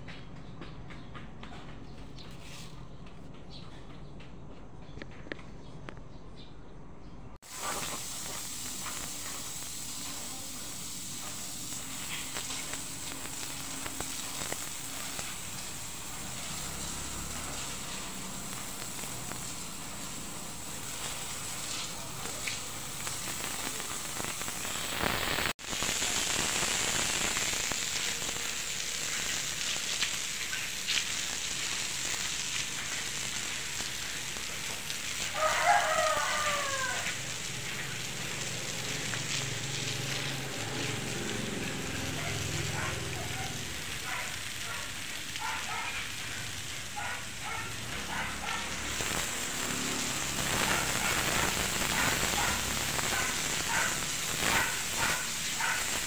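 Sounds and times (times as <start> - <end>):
rain falling steadily: 7.4 - 56.0.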